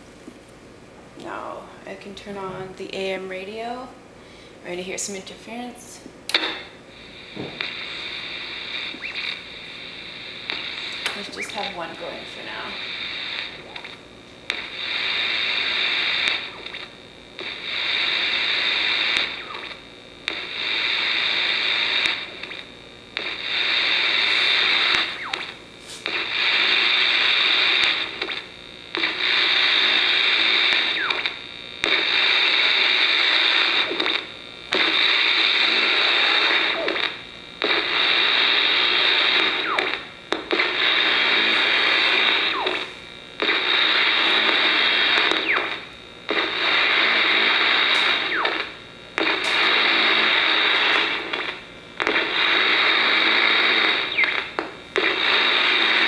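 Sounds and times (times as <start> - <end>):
radio static interference: 0.0 - 56.0.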